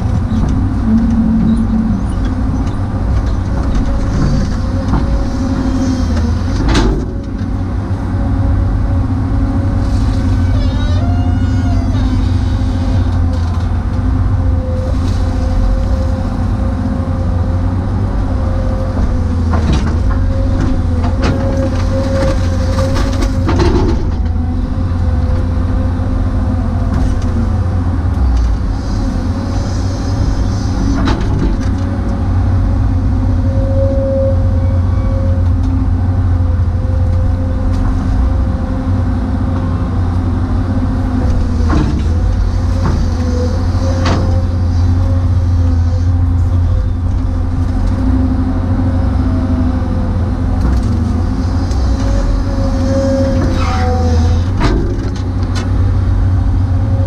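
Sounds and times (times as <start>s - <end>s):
excavator diesel engine running: 0.0s - 57.0s
steady hydraulic whine: 0.0s - 57.0s.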